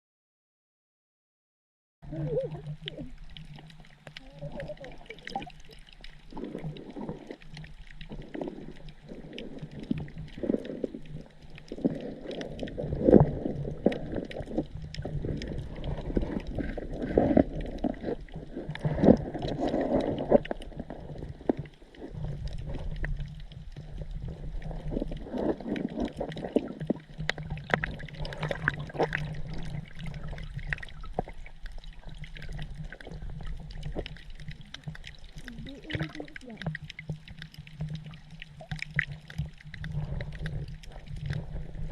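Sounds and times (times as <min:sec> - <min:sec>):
fish making low pops: 0:02.0 - 0:41.9
underwater low hum: 0:02.0 - 0:41.9.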